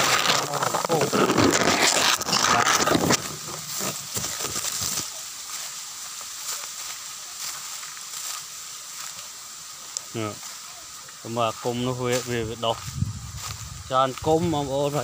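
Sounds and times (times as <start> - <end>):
dry leaves crackling underfoot: 0.0 - 15.0.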